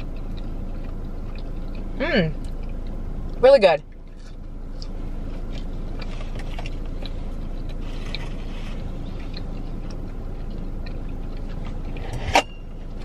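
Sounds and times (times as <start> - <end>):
car interior hum: 0.0 - 13.0
person chewing food: 0.0 - 13.0.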